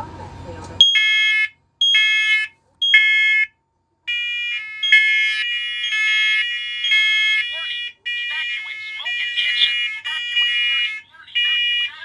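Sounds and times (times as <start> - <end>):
smoke alarms beeping: 0.8 - 3.5, 4.1 - 12.0.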